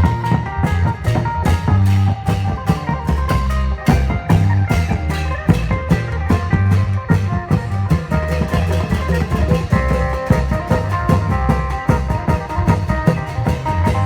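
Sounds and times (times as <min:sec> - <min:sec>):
drums keeping a steady beat: 0:00.0 - 0:14.0
plucked string melody: 0:00.0 - 0:14.0.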